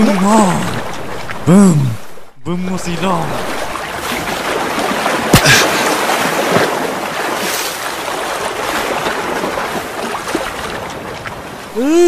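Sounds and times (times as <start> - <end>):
water churning and splashing: 0.0 - 12.0.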